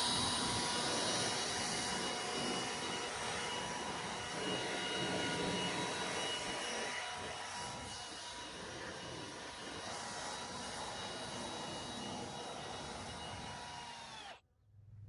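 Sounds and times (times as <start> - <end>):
band blade whine: 0.0 - 14.4
sawmill engine drone: 0.0 - 14.4.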